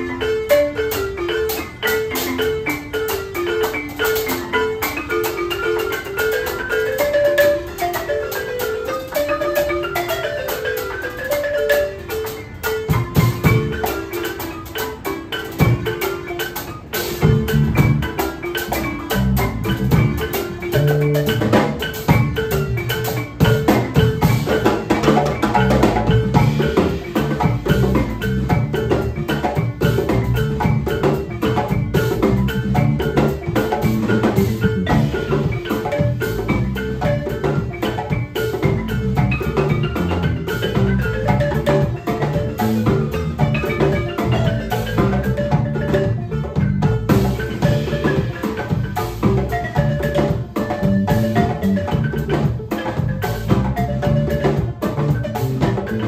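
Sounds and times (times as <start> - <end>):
live band music: 0.0 - 56.0
marimba struck with mallets: 0.0 - 56.0.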